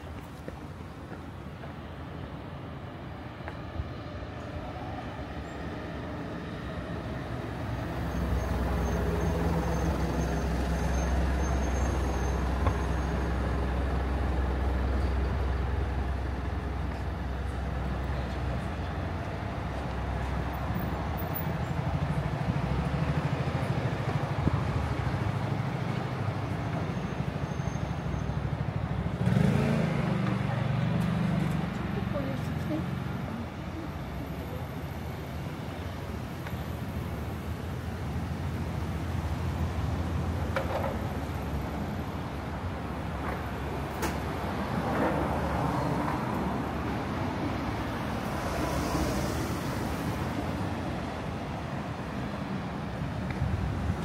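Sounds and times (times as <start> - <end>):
heavy vehicle engine rumble: 0.0 - 54.0
road traffic passing: 0.0 - 54.0.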